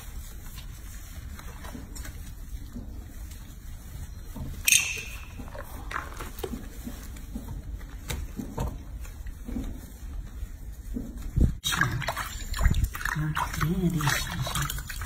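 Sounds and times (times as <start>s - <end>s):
soapy water sloshing and splashing: 0.0s - 15.0s.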